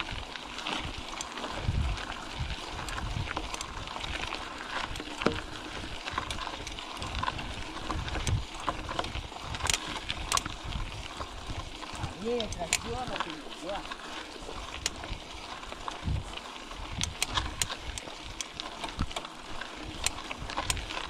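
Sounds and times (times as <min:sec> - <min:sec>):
wind buffeting microphone: 0:00.0 - 0:13.3, 0:14.4 - 0:19.1
bike clicks and rattles: 0:00.0 - 0:21.0.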